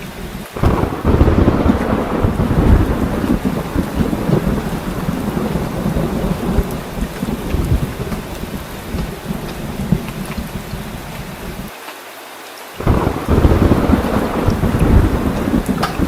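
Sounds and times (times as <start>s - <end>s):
rolling thunder rumble: 0.0s - 11.7s, 12.8s - 16.0s
heavy rain: 0.0s - 16.0s.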